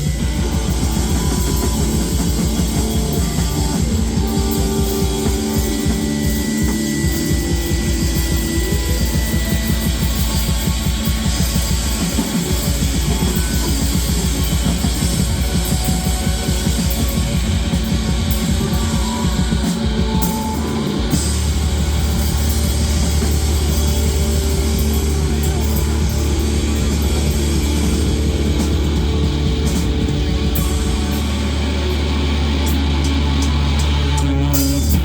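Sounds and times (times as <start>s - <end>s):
fast drumming: 0.0s - 35.0s
rock band playing: 0.0s - 35.0s
steady low drone: 0.0s - 35.0s.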